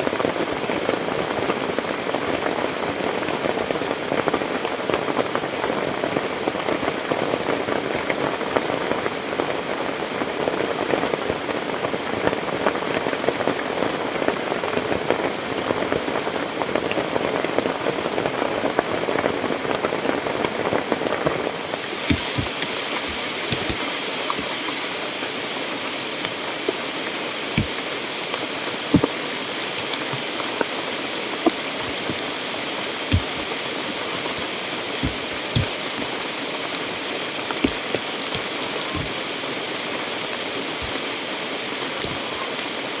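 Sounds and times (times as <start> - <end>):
rushing water: 0.0 - 43.0.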